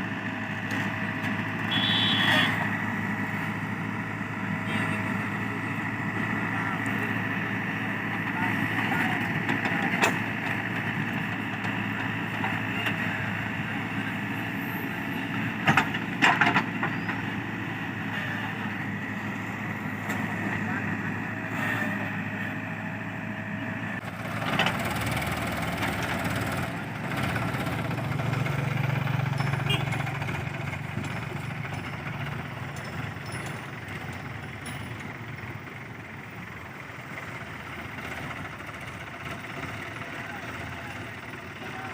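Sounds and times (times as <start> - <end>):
backhoe diesel engine running: 0.0 - 41.9.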